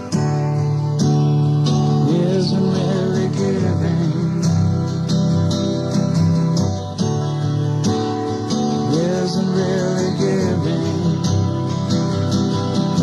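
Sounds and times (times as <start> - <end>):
folk-rock band playing: 0.0 - 13.0
strummed acoustic guitars: 0.0 - 13.0.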